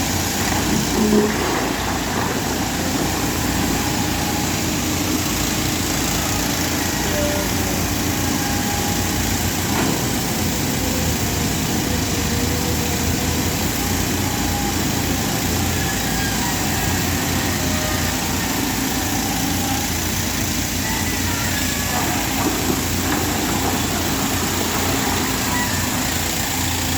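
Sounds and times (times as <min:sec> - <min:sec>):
diesel engine of heavy machinery: 0:00.0 - 0:26.9.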